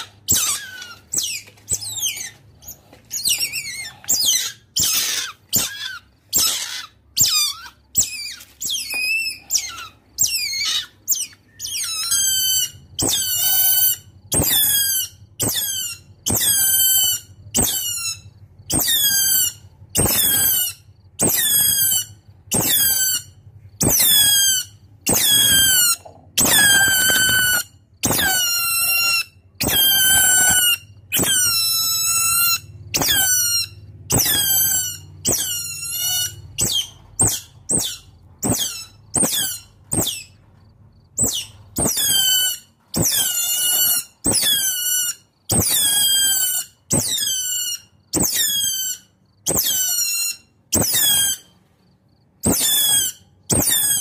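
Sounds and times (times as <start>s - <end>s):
otter squeaking calls: 0.0s - 40.4s, 41.2s - 51.5s, 52.4s - 54.0s.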